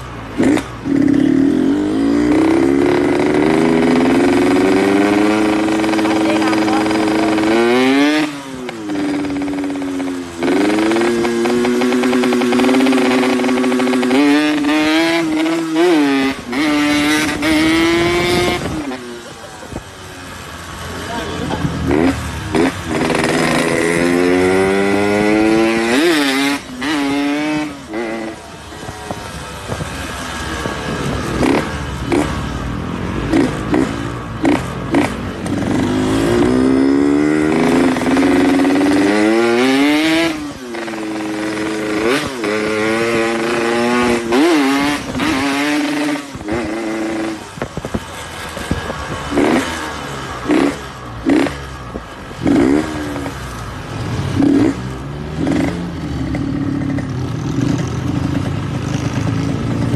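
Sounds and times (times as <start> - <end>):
motorcycle engine shifting gears: 0.0 - 59.9.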